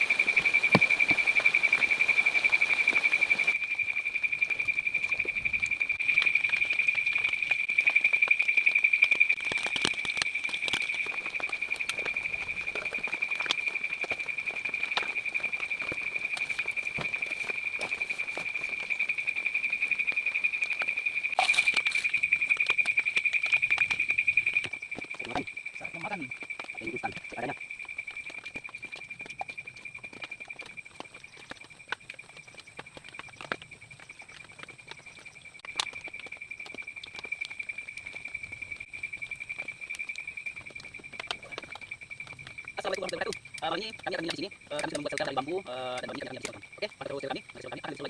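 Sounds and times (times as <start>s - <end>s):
rustle: 0.0s - 42.7s
crickets trilling: 0.0s - 48.0s.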